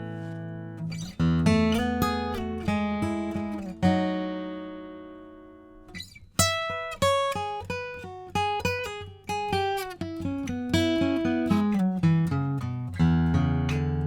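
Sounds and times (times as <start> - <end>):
acoustic guitar notes: 0.0 - 14.0.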